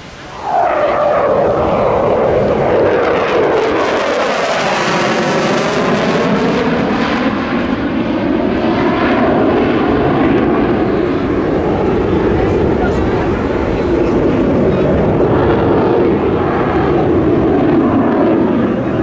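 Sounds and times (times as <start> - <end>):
fighter jet engine noise: 0.0 - 19.0.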